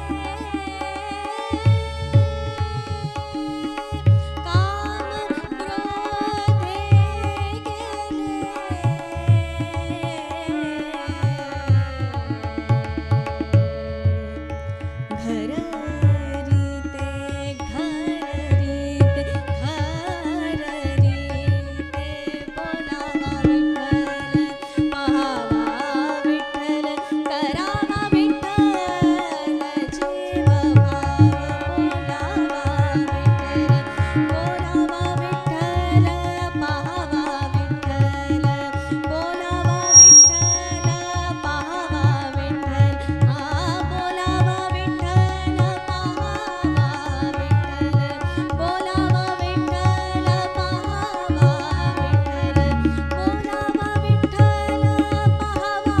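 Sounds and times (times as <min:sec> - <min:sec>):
harmonium: 0:00.0 - 0:56.0
tabla playing: 0:00.0 - 0:56.0
woman singing devotional song: 0:00.0 - 0:56.0.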